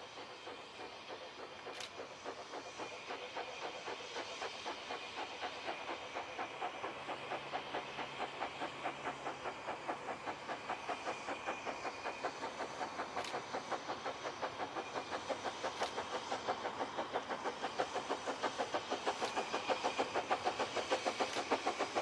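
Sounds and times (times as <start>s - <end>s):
steam hissing: 0.0s - 22.0s
steam locomotive exhaust chuffing: 0.0s - 22.0s.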